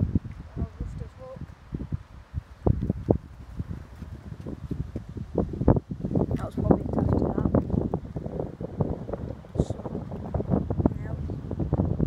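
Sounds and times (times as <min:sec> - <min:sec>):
wind blowing across microphone: 0:00.0 - 0:12.0.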